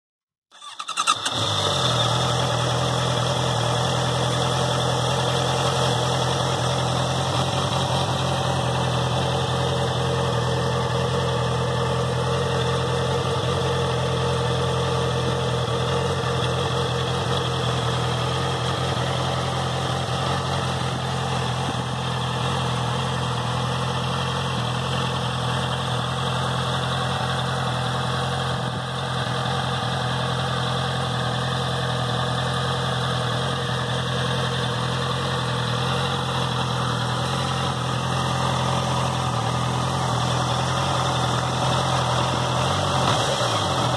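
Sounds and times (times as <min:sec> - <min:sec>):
motorcycle engine idling: 0:00.5 - 0:43.9.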